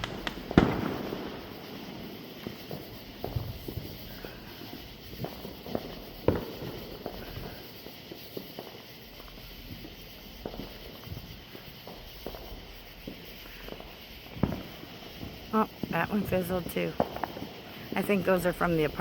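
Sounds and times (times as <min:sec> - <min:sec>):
distant fireworks popping: 0:00.0 - 0:19.0.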